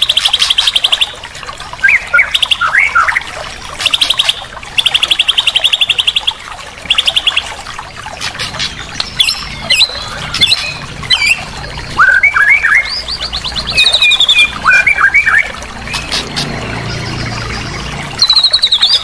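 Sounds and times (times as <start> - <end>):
songbird singing: 1.8 - 7.5, 8.4 - 19.0.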